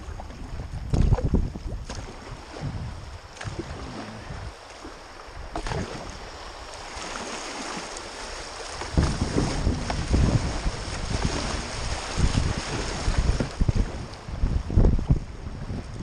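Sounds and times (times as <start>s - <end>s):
paddle strokes in water: 0.0s - 15.2s
water rushing around a kayak: 0.0s - 16.0s
wind buffeting microphone: 0.0s - 16.0s.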